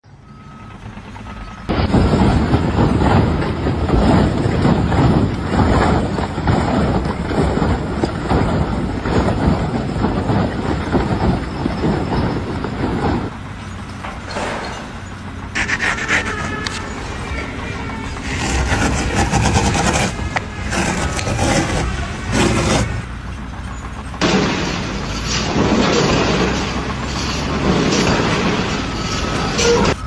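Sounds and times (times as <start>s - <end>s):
rough mechanical rattling and rumbling: 0.1s - 30.0s.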